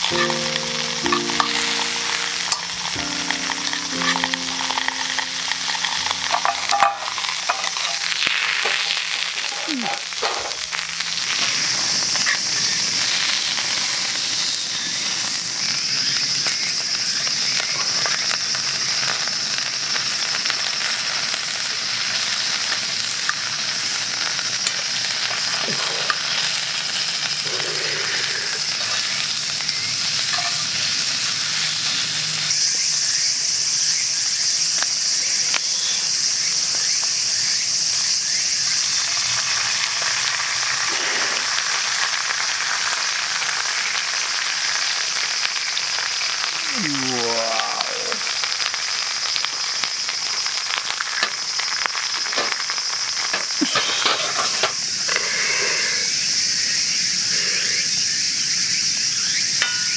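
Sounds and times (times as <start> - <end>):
food sizzling in frying pan: 0.0 - 59.9.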